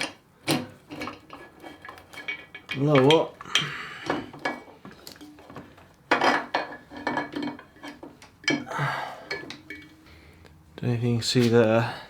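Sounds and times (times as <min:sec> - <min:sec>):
metal parts and tools clattering: 0:00.0 - 0:10.1.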